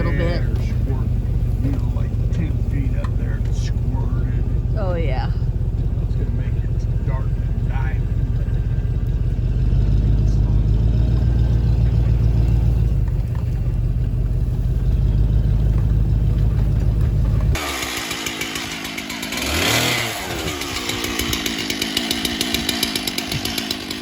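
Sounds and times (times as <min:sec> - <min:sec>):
small engine buzzing: 0:00.0 - 0:24.0
vehicle engine rumble: 0:00.0 - 0:24.0.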